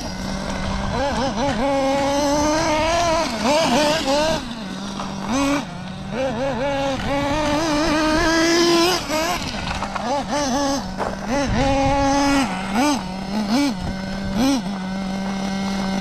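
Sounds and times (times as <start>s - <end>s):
nitro engine revving and idling: 0.0s - 16.0s.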